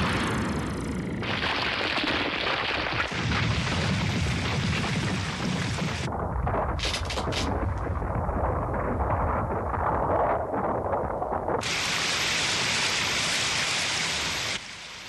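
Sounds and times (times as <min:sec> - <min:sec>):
sharp cracks: 0:00.0 - 0:13.0
blast rumble with hiss: 0:00.0 - 0:15.0.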